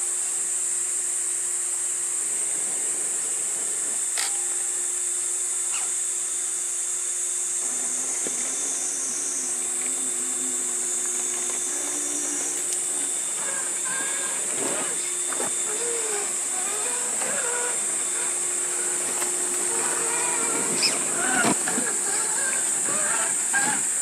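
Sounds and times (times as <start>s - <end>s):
low wavering hum: 0.0s - 24.0s
electric motor whining: 2.2s - 24.0s.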